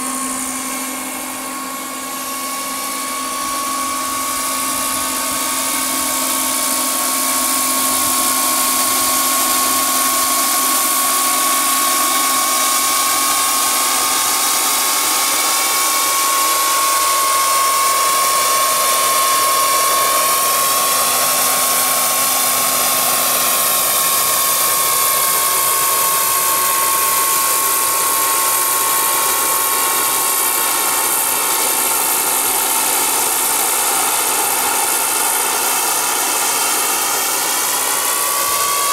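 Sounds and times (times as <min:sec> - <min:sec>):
model helicopter turbine whine: 0:00.0 - 0:38.9.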